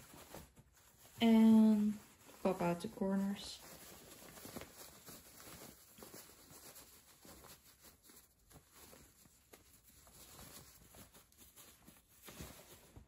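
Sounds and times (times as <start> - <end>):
fabric rustling: 0.0 - 13.0.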